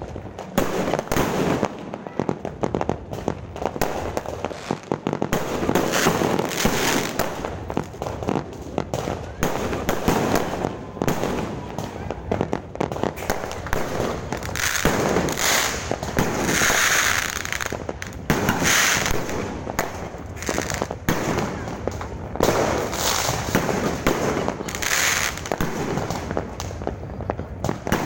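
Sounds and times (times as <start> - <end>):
fireworks bangs and pops: 0.0 - 28.0
hissing crackling bursts: 0.0 - 28.0.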